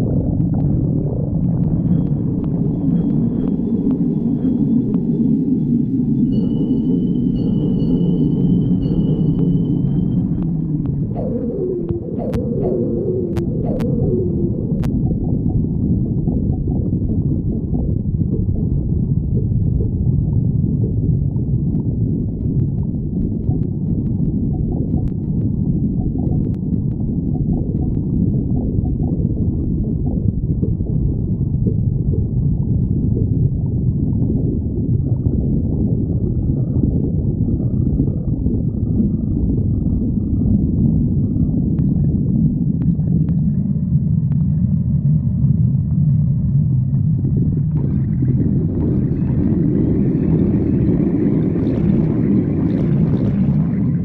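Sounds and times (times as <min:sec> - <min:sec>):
stomach growling: 0:00.0 - 0:06.2, 0:08.6 - 0:54.0.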